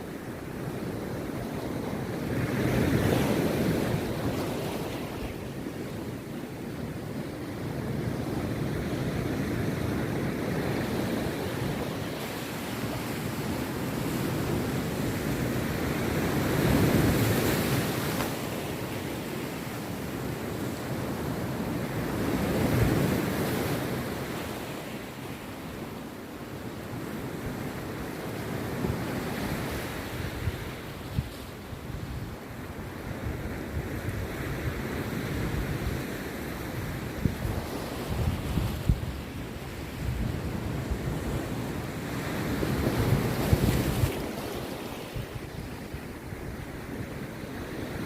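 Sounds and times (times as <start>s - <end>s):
waves breaking on beach: 0.0s - 48.0s.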